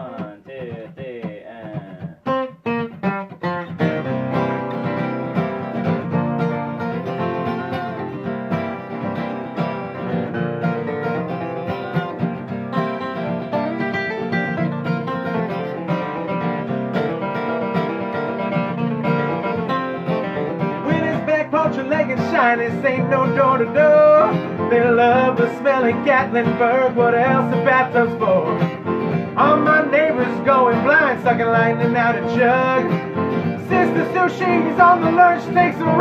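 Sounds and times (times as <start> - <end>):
plucked acoustic guitar: 0.0 - 36.0.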